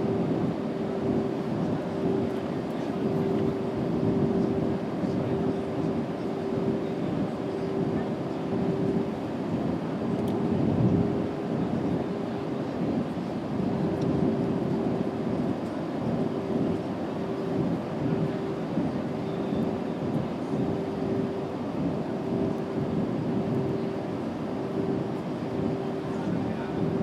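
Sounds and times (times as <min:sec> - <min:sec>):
jet engines and rushing air: 0:00.0 - 0:27.0
steady cabin hum: 0:00.0 - 0:27.0.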